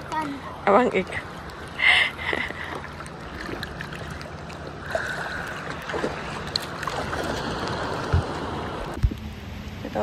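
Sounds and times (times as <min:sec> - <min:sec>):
seawater sloshing and lapping: 0:00.0 - 0:09.2
steady low hum: 0:00.0 - 0:10.0.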